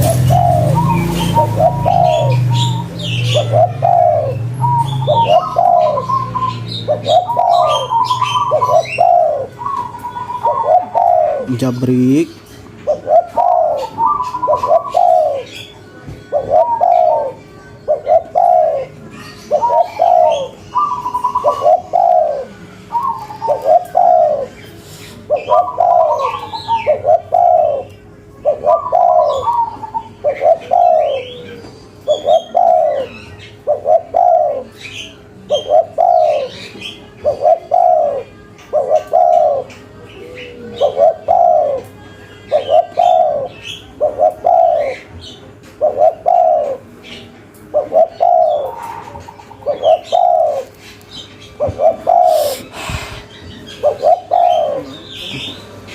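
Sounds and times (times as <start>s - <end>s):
dove cooing: 0.0s - 55.9s
small birds chirping: 0.0s - 55.9s.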